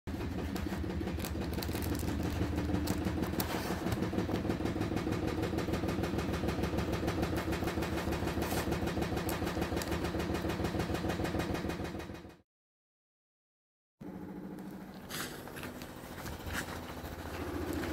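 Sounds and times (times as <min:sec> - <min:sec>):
washing machine running: 0:00.1 - 0:12.4, 0:14.0 - 0:17.9.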